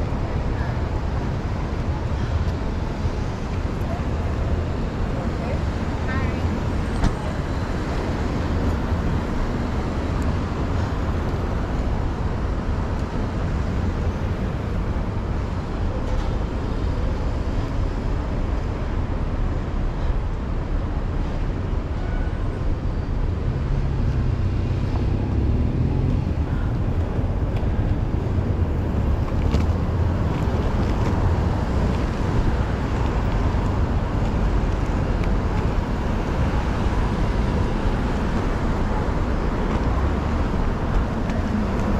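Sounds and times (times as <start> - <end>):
low rumble of passing cars: 0.0 - 41.9.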